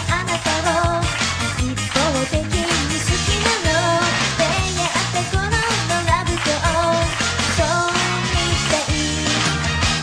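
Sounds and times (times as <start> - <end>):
girl singing: 0.0 - 1.0, 2.0 - 9.4
pop band with bass and drums: 0.0 - 10.0.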